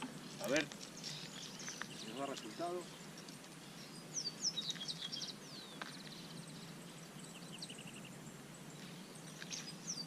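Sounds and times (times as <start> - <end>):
faint background hiss: 0.0 - 10.0
small birds chirping and trilling: 0.0 - 10.0.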